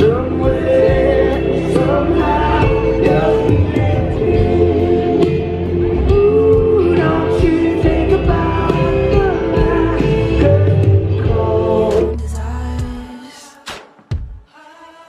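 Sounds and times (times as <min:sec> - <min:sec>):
person singing: 0:00.0 - 0:13.8, 0:14.4 - 0:15.0
live band playing: 0:00.0 - 0:14.3.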